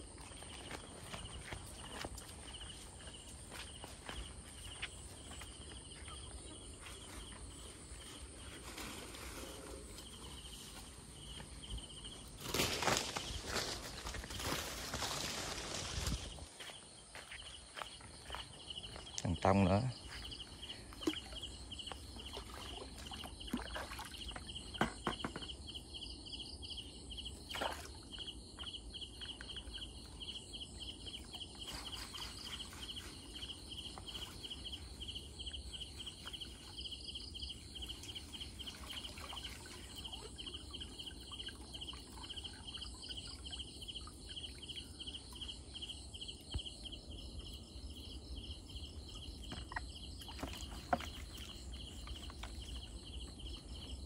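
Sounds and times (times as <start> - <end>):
night insects chirping: 0.0 - 54.0.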